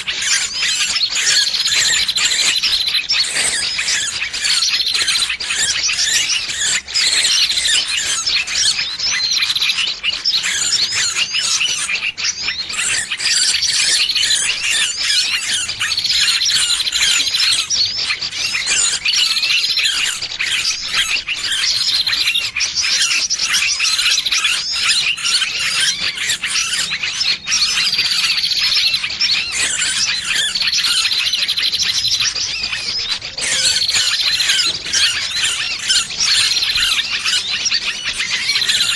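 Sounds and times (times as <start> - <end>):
birds shrill distress calls: 0.0 - 38.9.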